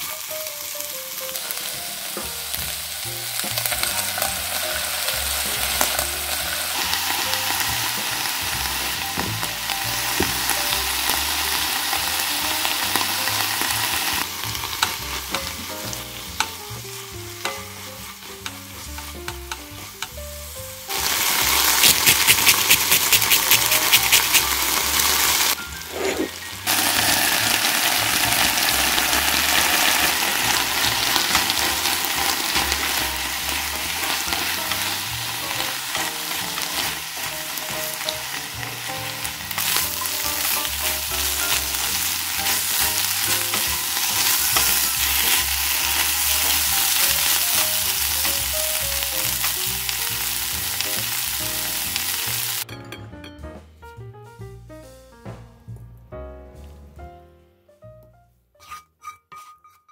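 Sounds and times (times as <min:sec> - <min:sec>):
food sizzling in a frying pan: 0:00.0 - 0:52.7.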